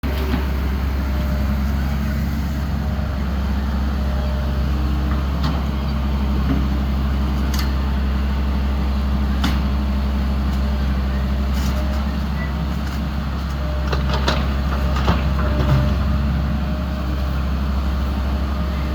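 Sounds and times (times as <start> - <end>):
engine droning: 0.0 - 18.9.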